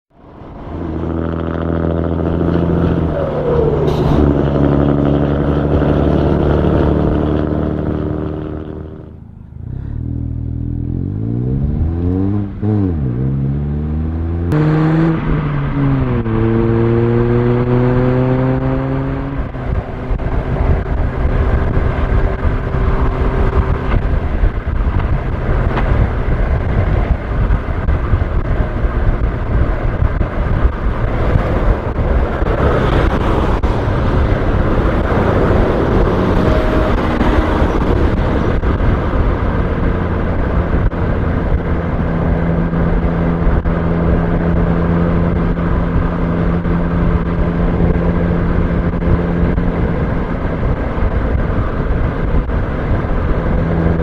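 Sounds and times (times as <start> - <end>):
road and wind noise: 0.1 - 54.0
vehicle engine shifting gears: 0.1 - 54.0.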